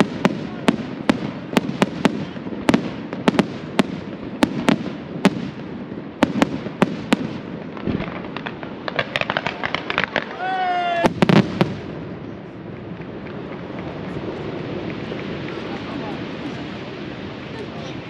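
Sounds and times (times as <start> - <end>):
fireworks bangs: 0.0 - 18.0
fireworks crackling hiss: 0.0 - 18.0.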